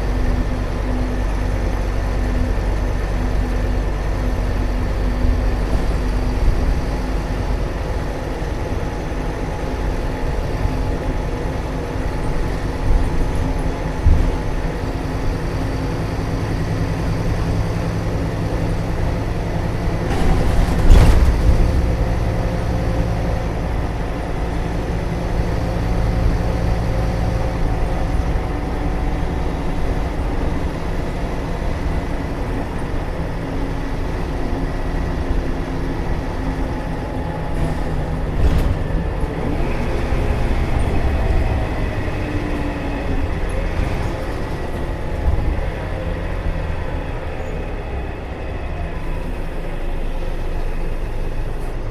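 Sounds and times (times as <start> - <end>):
bus diesel engine running: 0.0 - 51.9.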